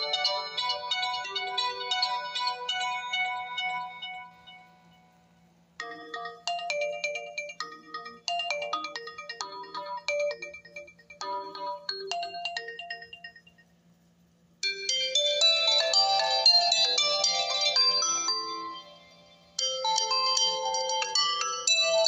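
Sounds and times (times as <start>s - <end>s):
melodic phone ringtone: 0.0s - 5.1s, 5.8s - 13.4s, 14.7s - 22.0s
busier louder ringtone: 0.0s - 5.2s, 5.8s - 13.6s, 14.7s - 22.0s.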